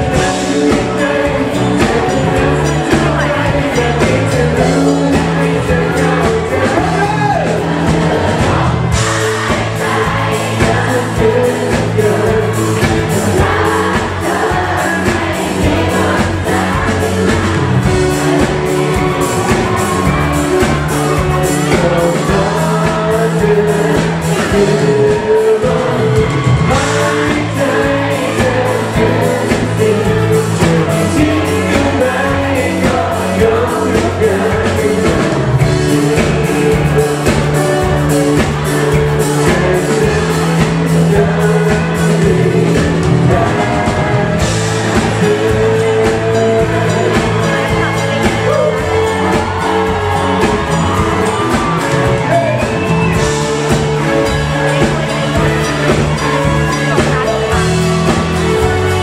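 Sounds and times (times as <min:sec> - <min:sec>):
bass notes: 0:00.0 - 0:59.0
drum beat: 0:00.0 - 0:59.0
person singing: 0:00.0 - 0:59.0.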